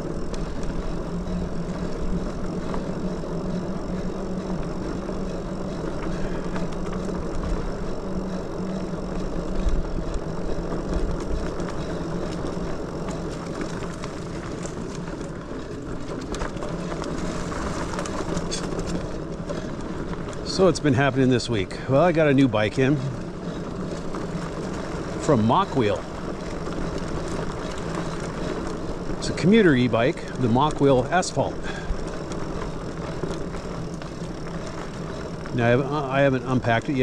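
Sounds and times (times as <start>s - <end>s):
electric bike motor hum: 0.0s - 37.0s
tyres rumbling on dirt: 0.0s - 37.0s.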